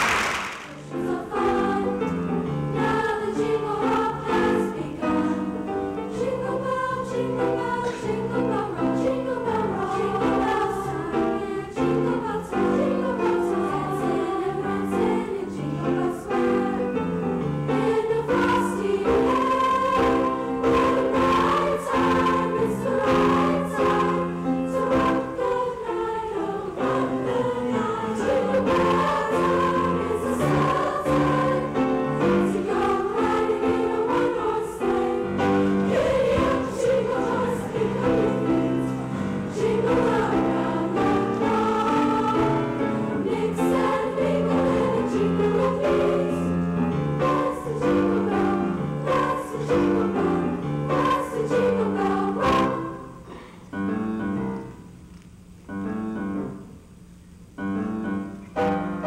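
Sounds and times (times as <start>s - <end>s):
choir singing in parts: 0.0s - 53.5s.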